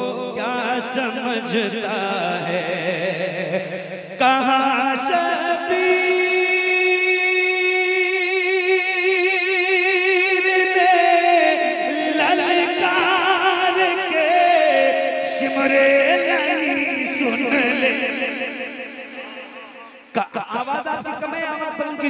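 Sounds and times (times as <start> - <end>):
man singing over loudspeakers: 0.0 - 22.0.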